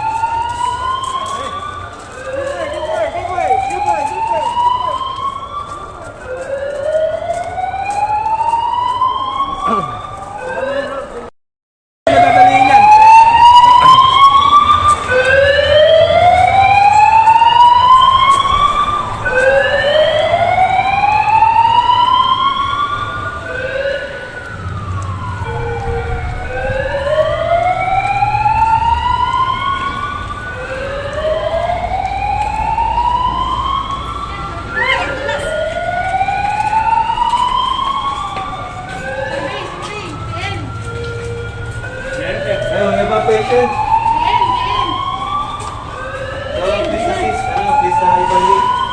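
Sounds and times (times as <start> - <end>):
second steady siren tone: 0.0 - 11.3, 12.1 - 48.9
siren wailing: 0.0 - 11.3, 12.1 - 48.9.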